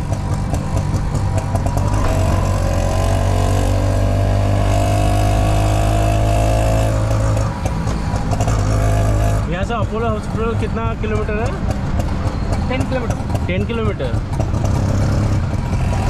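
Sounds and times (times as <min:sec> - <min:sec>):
auto rickshaw engine running: 0:00.0 - 0:16.0.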